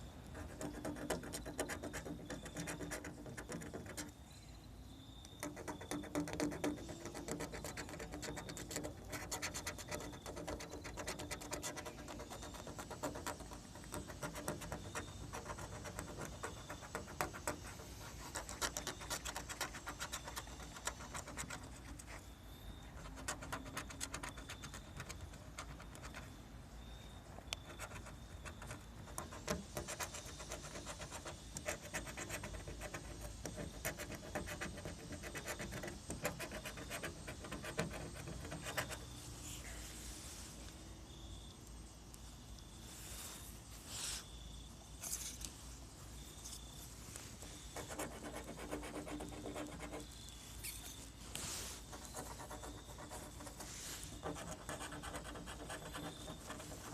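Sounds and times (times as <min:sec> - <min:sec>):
scratching lottery ticket: 0:00.3 - 0:04.2, 0:05.4 - 0:26.4, 0:27.3 - 0:39.8, 0:47.2 - 0:56.9.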